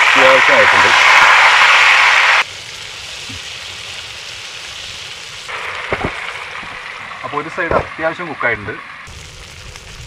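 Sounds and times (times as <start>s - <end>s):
fish sizzling in a pan: 0.0s - 7.7s, 9.0s - 10.0s.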